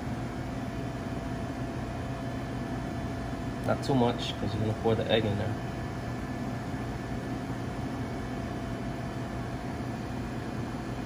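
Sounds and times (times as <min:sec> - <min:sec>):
kitchen machinery hum: 0:00.0 - 0:11.0.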